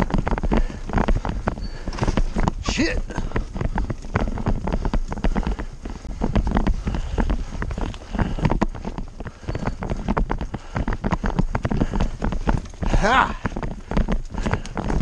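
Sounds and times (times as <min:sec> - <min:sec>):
bike rattling over roots and rocks: 0:00.0 - 0:15.0
low wind rumble: 0:00.0 - 0:15.0.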